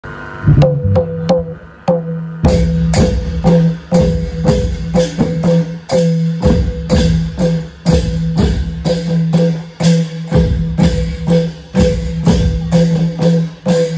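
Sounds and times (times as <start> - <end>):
long drums beating: 0.5 - 13.9.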